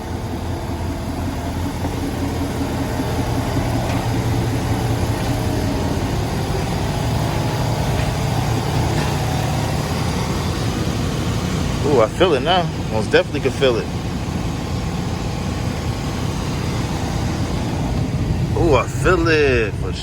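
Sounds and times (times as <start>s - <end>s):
air conditioning rushing air: 0.0s - 20.0s
car engine idling: 0.0s - 20.0s.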